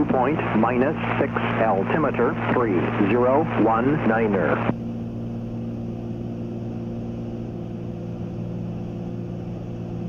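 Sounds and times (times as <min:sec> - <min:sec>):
aircraft engines droning in cabin: 0:00.0 - 0:10.0.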